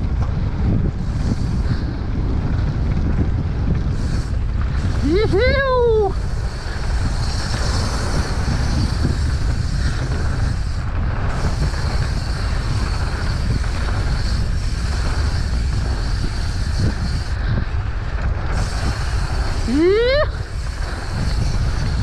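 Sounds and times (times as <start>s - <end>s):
bike riding noise: 0.0s - 22.0s
wind buffeting microphone: 0.0s - 22.0s.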